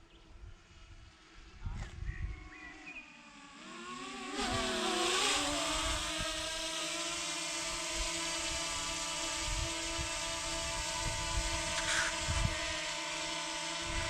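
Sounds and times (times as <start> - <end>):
drone propellers whining: 1.8 - 14.0.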